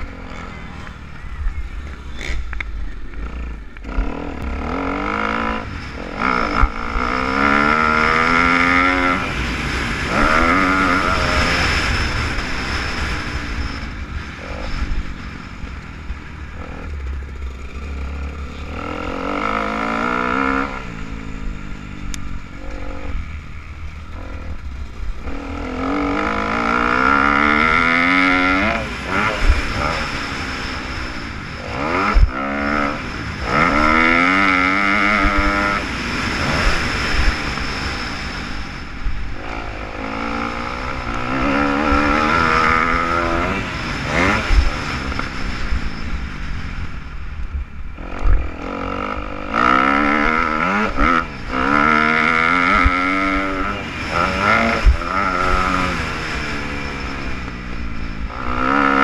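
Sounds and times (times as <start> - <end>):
motorbike engine revving: 0.0 - 59.0
wind rumble: 0.0 - 59.0.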